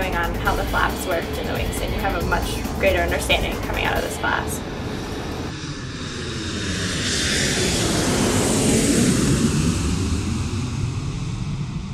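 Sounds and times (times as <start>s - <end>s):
airplane passing overhead: 0.0s - 11.9s.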